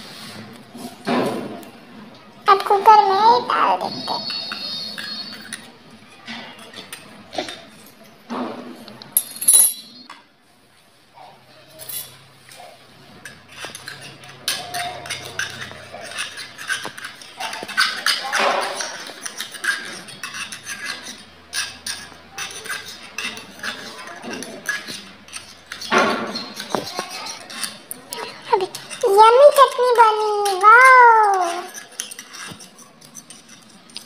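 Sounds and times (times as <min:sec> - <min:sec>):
toy metal utensils clinking: 0:02.5 - 0:08.0, 0:09.1 - 0:10.0, 0:11.7 - 0:12.2, 0:13.2 - 0:34.0.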